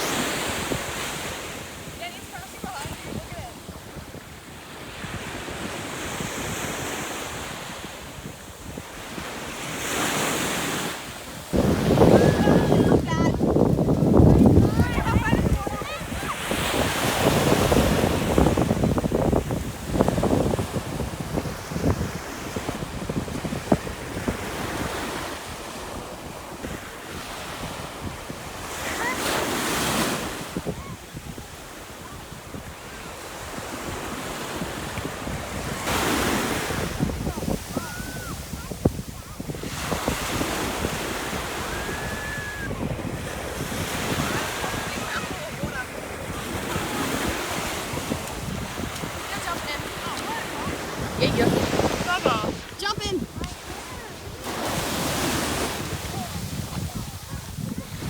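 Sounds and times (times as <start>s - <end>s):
ocean waves breaking: 0.0s - 58.0s
wind buffeting microphone: 0.0s - 58.0s.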